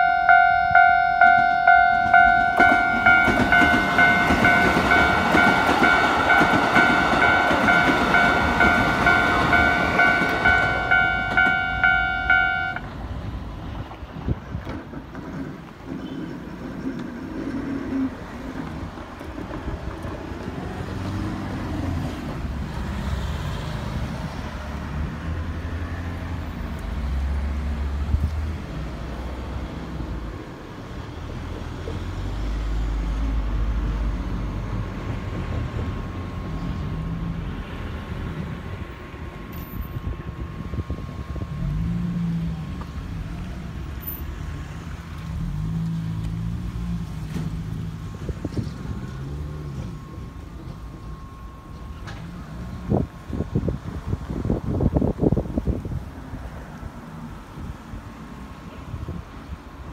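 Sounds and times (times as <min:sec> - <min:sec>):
vehicle rumble: 0:00.0 - 0:59.9.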